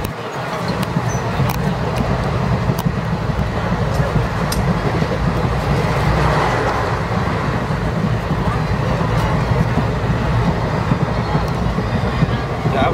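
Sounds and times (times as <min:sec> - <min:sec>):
train carriage rumble: 0:00.0 - 0:12.9.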